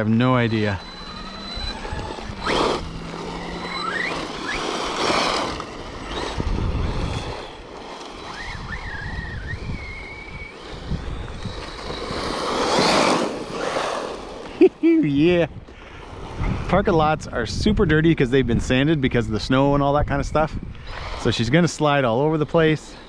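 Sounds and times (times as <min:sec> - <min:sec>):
electric motor whining: 0:00.0 - 0:17.8, 0:18.5 - 0:23.0
tyres skidding on grit: 0:00.0 - 0:23.0.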